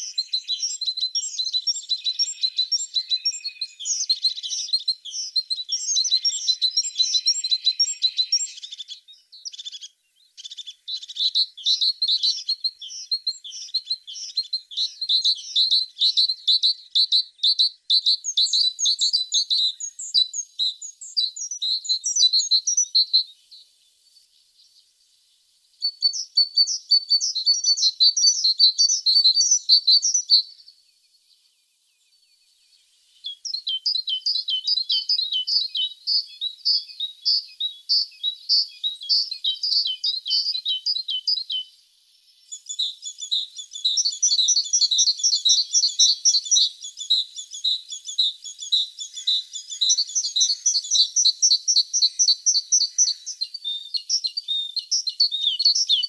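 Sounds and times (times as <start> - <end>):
bird singing fast trills: 0.0 - 25.1, 25.7 - 56.0.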